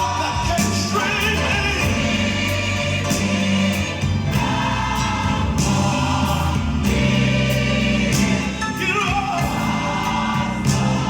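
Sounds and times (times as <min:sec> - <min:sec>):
choir singing held notes: 0:00.0 - 0:11.0
gospel band accompaniment: 0:00.0 - 0:11.0
steady bass line: 0:00.0 - 0:11.0.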